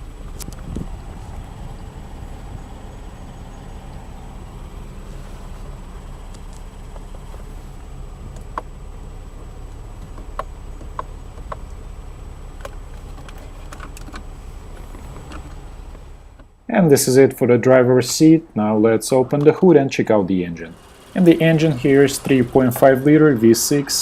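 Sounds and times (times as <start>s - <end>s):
car idling from inside: 0.0s - 24.0s.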